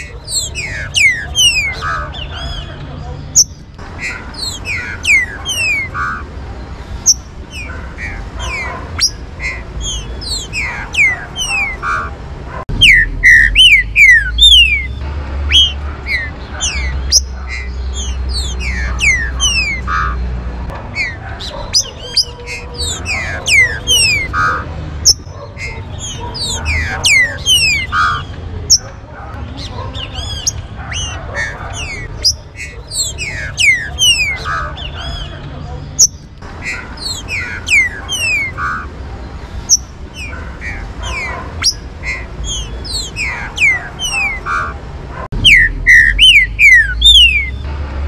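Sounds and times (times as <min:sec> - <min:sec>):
birds whistling: 0:00.0 - 0:47.7.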